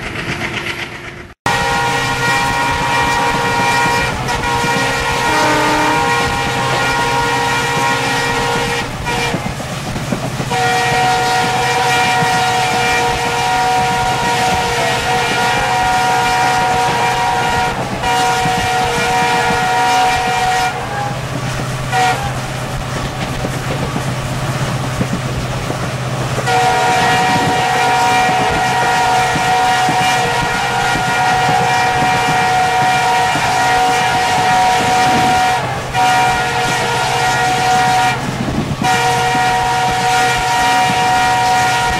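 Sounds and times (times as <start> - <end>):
train wheels rumbling on rails: 0.0 - 41.9
train horn blasts: 1.4 - 9.6, 10.4 - 41.9.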